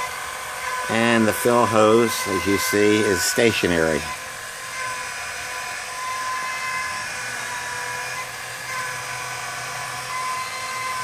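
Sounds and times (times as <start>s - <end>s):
electric air pump whining: 0.0s - 11.0s.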